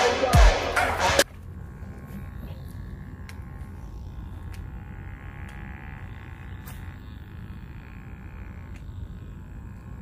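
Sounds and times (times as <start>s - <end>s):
faint high insect buzz: 1.3s - 10.0s.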